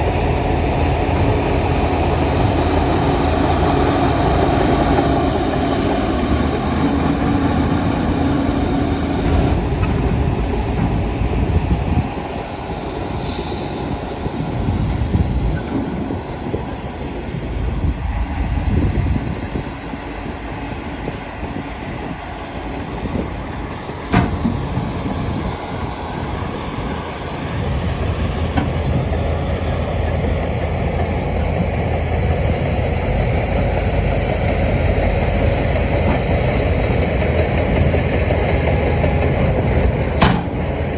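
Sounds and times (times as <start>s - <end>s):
bulldozer diesel engine rumbling: 0.0s - 40.9s.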